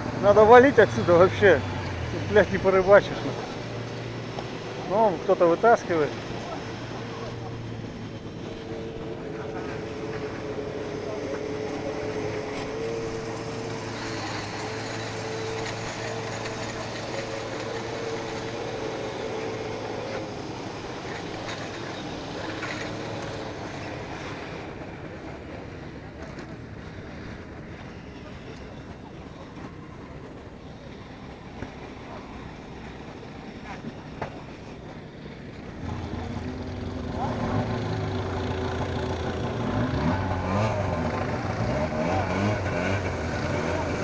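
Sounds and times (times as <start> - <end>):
distant engines: 0.0 - 44.0
faint crowd voices: 0.0 - 44.0
snowmobile engine droning: 0.0 - 44.0.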